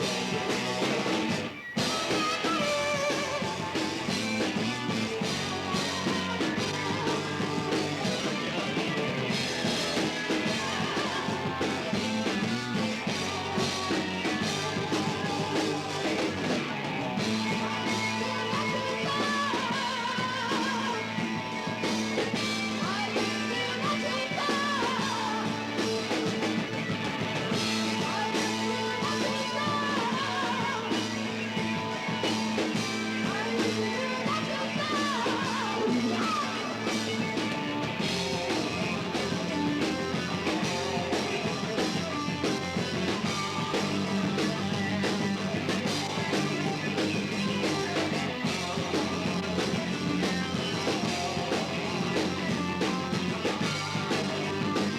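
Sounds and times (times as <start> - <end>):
rock band playing: 0.0 - 54.9
sliding bending lead guitar line: 0.0 - 54.9.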